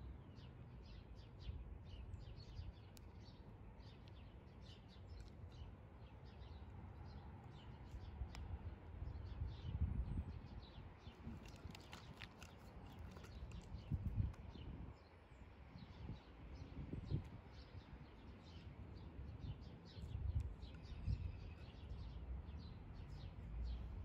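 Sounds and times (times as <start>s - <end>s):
small birds chirping: 0.1s - 24.0s.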